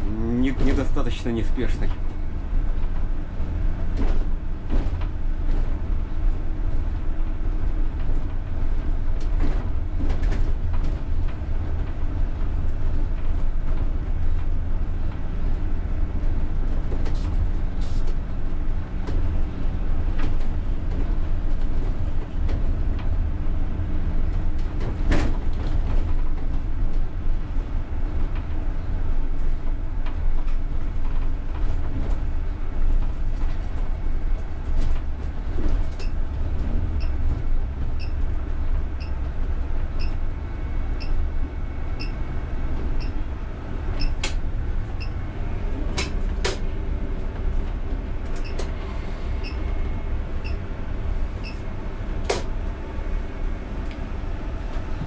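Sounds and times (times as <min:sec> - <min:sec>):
low rumble of bus and tyres: 0:00.0 - 0:55.0.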